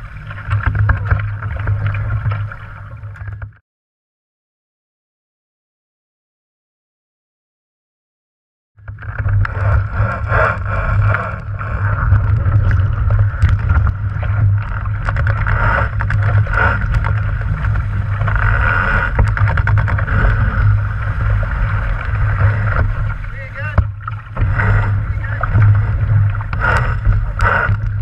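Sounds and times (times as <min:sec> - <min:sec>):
water rushing along a boat hull: 0:00.0 - 0:03.6, 0:08.8 - 0:28.0.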